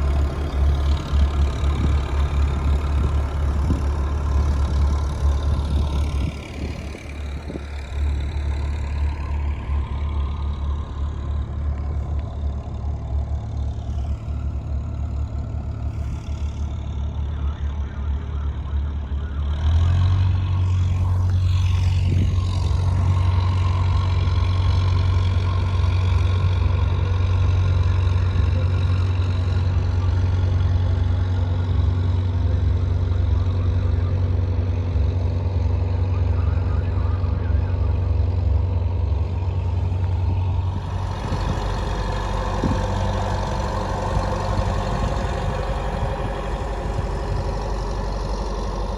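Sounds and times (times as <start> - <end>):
boat diesel engine running: 0.0 - 48.9.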